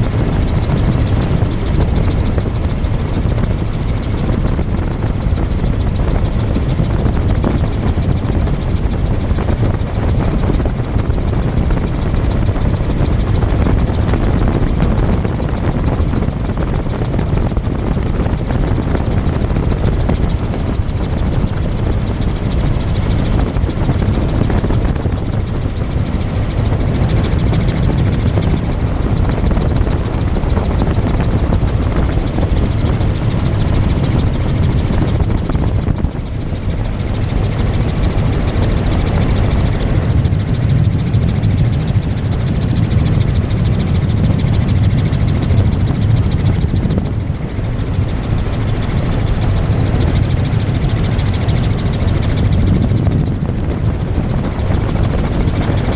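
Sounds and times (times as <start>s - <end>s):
helicopter rotor and engine drone: 0.0s - 55.9s.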